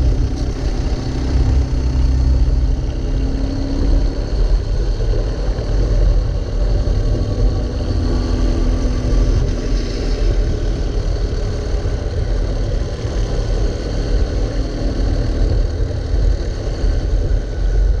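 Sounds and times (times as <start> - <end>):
racing kart engine running: 0.0 - 18.0.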